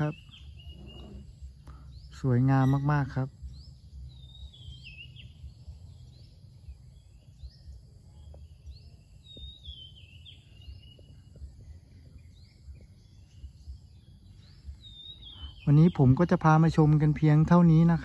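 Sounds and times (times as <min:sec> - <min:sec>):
faint bird chirps: 0:00.0 - 0:18.0
low outdoor rumble: 0:00.0 - 0:18.0.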